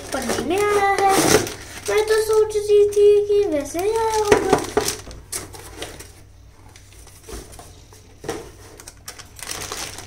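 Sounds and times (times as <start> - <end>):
plastic bag crinkling: 0.0 - 7.3, 8.5 - 10.0.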